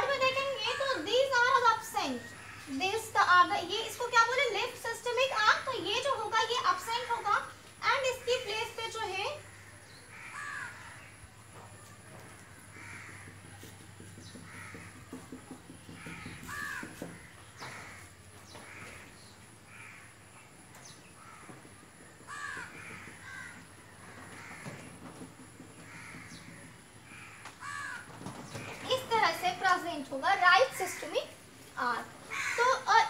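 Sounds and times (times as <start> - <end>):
crows cawing: 0.1 - 3.5, 6.4 - 29.2, 30.5 - 33.0.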